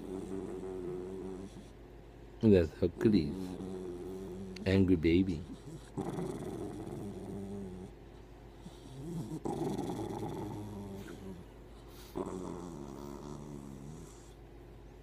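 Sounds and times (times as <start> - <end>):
dog growling: 0.0 - 1.8, 2.9 - 8.0, 8.6 - 14.4.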